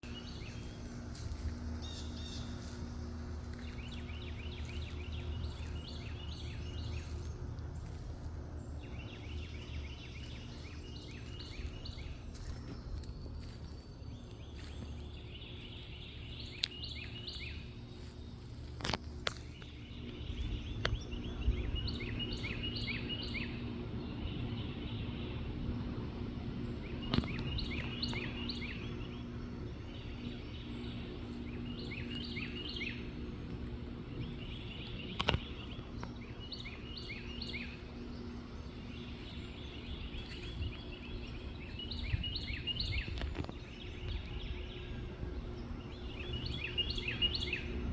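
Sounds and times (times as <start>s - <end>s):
low outdoor rumble: 0.0s - 47.9s.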